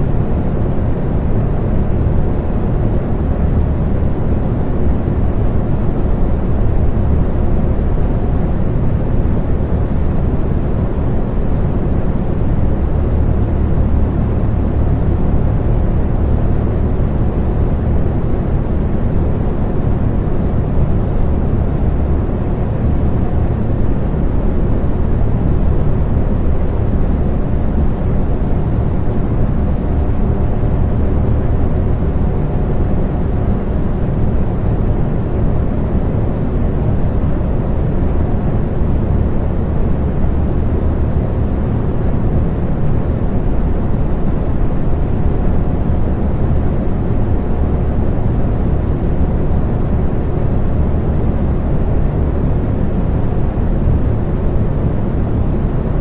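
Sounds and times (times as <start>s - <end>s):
electric fan whooshing hum: 0.0s - 56.0s.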